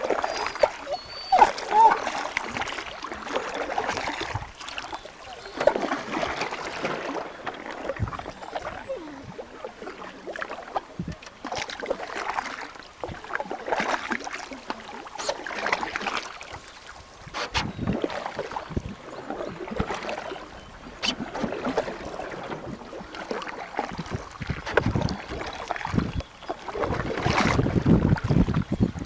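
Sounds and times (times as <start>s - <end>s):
canoe paddles in water: 0.0s - 29.0s
water splashes and drips: 0.0s - 29.0s.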